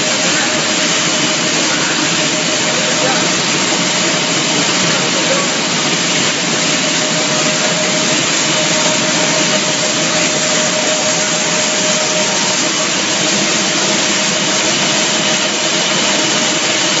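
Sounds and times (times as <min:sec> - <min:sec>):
constant humming tone: 0:00.0 - 0:17.0
machinery roaring: 0:00.0 - 0:17.0.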